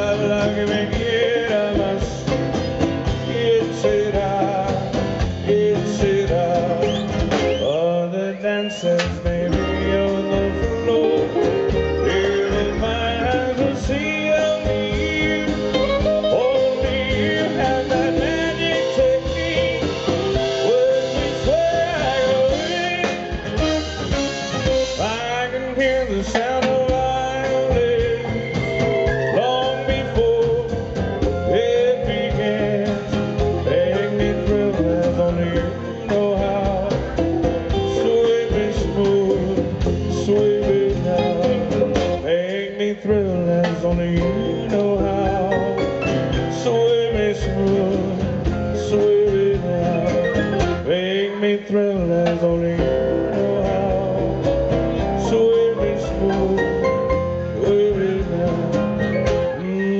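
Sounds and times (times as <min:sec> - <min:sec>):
bass: 0:00.0 - 0:59.9
drums: 0:00.0 - 0:59.9
guitar: 0:00.0 - 0:59.9
person singing: 0:00.0 - 0:59.9.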